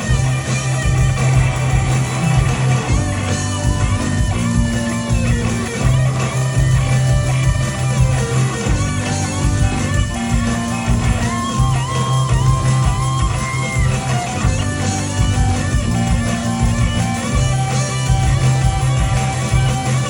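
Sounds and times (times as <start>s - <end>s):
lead electric guitar with bent notes: 0.0s - 20.0s
rhythm guitar and bass: 0.0s - 20.0s.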